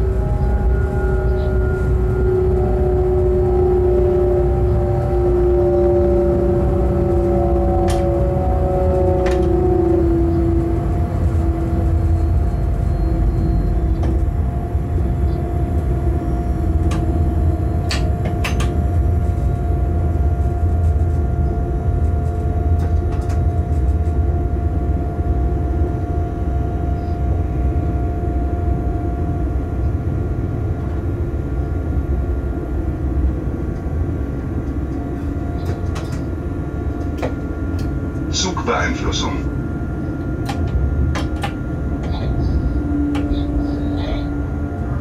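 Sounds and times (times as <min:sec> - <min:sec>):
locomotive whine: 0:00.0 - 0:45.0
wheels rumbling on rail: 0:00.0 - 0:45.0.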